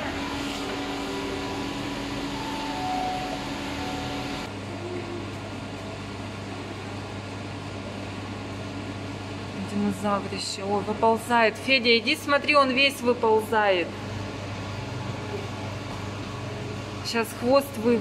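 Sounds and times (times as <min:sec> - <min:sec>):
ventilation and pump hum: 0:00.0 - 0:18.0.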